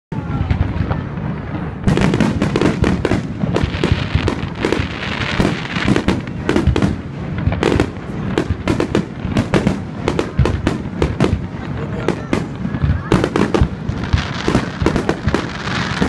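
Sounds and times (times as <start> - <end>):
fireworks bangs: 0.1 - 16.0
fireworks crackle and hiss: 0.2 - 16.0.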